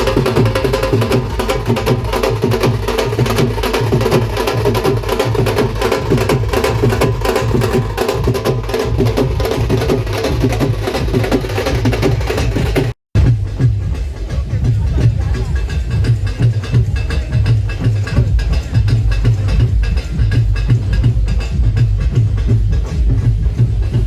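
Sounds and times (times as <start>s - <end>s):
fast continuous drumming: 0.0s - 24.0s
woody clacking percussion: 0.0s - 24.0s.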